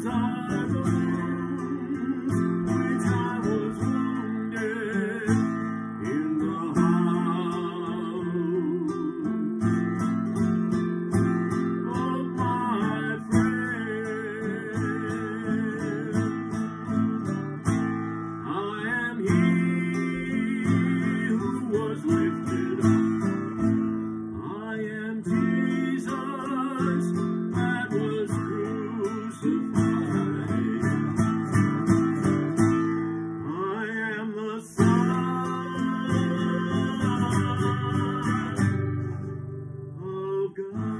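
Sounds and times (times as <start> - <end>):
man singing with vibrato: 0.0 - 40.9
strummed classical guitar: 0.0 - 40.9.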